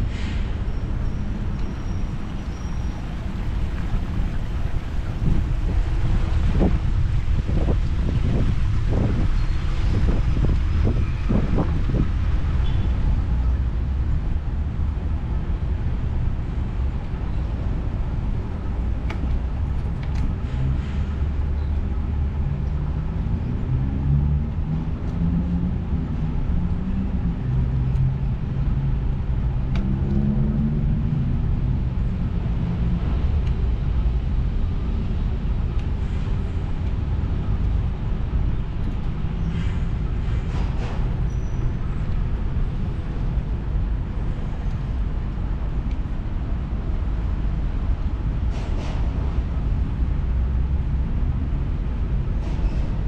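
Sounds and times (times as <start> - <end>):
wind buffeting microphone: 3.0 - 53.0.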